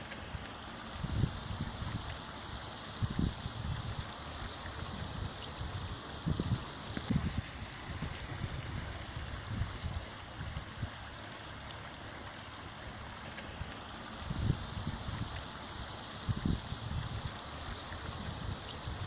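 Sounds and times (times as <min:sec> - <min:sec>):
water pouring onto rocks: 0:00.0 - 0:19.0.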